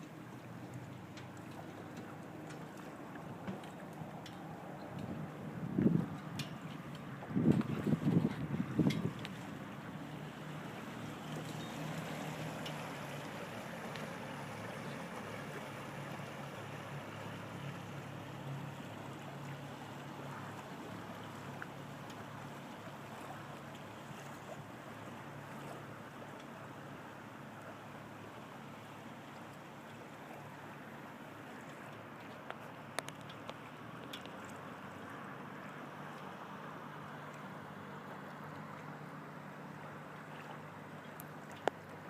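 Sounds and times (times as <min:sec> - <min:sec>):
rushing water: 0:00.0 - 0:42.0
wind: 0:00.0 - 0:42.0.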